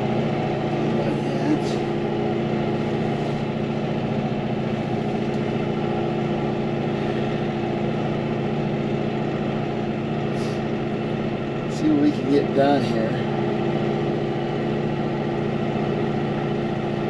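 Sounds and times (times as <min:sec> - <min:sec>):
tractor engine running steadily: 0:00.0 - 0:17.0.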